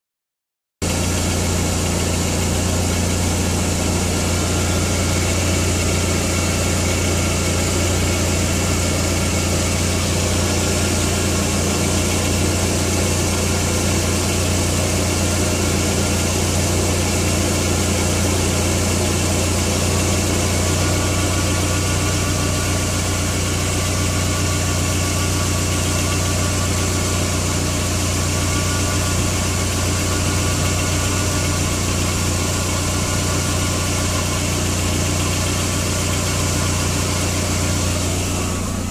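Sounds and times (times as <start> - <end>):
car engine idling: 0.8 - 38.9.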